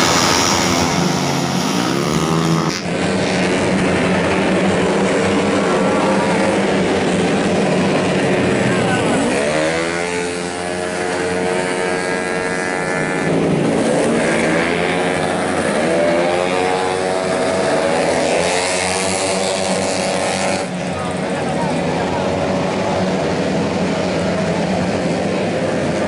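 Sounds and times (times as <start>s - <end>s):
racing scooters passing at full throttle: 0.0s - 26.0s.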